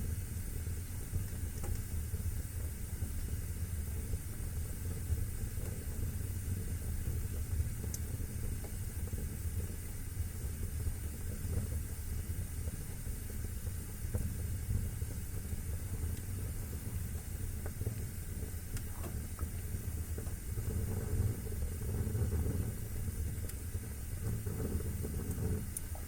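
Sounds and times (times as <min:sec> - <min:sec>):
fire crackles and pops: 0:00.0 - 0:26.0
fire flames rumbling and hissing: 0:00.0 - 0:26.0.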